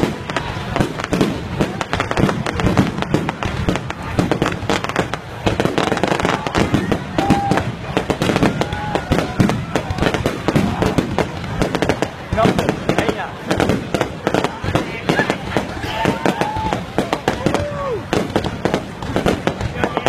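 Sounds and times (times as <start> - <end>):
fireworks cracking and banging: 0.0 - 20.0.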